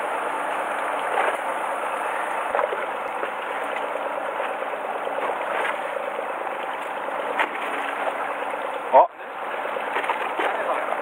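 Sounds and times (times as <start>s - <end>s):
boat running noise: 0.0s - 11.0s
water against boat hull: 0.0s - 11.0s.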